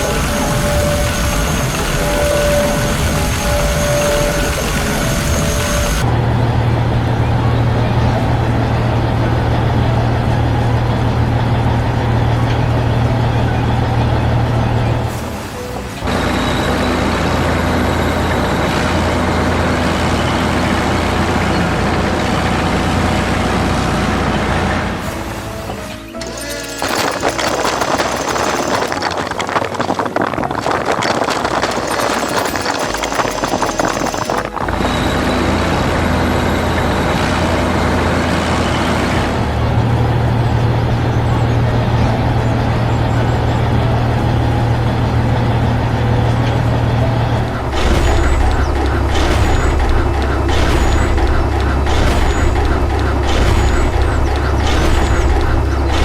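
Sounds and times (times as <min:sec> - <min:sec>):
heavy machine engine humming: 0:00.0 - 0:56.0.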